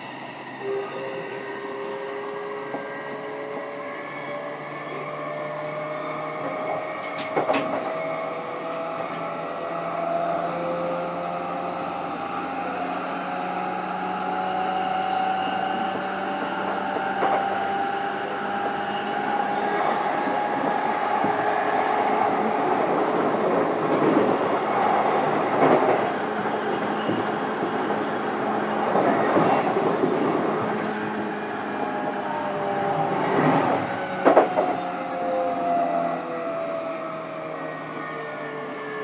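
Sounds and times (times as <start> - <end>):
low train rumble: 0.0 - 39.0.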